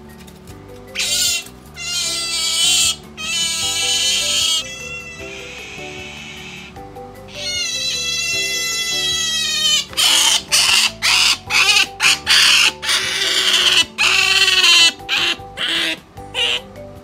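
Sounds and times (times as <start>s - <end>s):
otter whining: 0.9s - 17.0s
otter squealing harshly: 1.0s - 16.7s.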